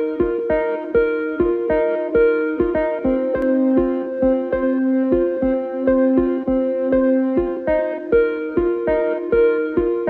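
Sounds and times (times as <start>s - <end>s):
held background notes: 0.0s - 10.0s.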